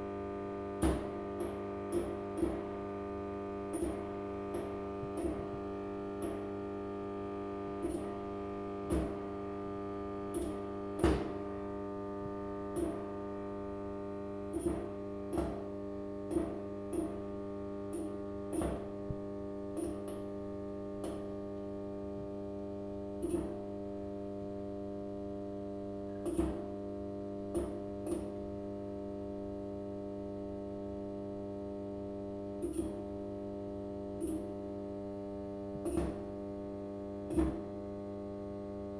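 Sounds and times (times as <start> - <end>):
fluorescent lamp buzzing: 0.0 - 38.9.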